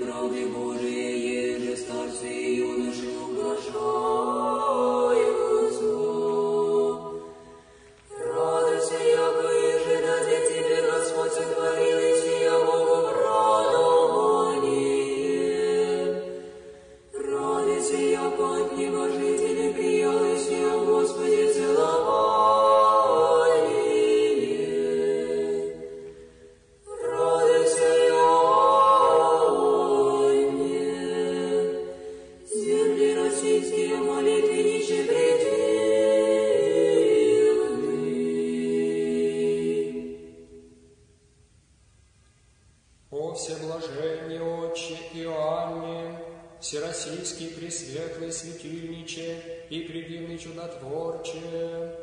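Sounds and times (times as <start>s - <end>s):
choir singing a cappella chant: 0.0s - 41.0s, 43.2s - 52.0s.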